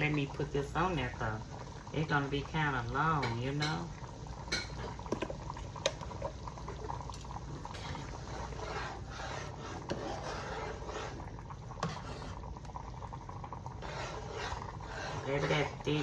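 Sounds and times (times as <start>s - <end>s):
gravy simmering in a pot: 0.0s - 16.0s.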